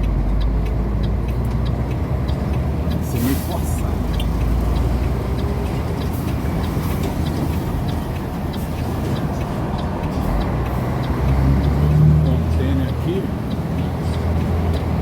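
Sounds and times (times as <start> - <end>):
diesel truck engine running: 0.0 - 15.0
road noise: 0.0 - 15.0.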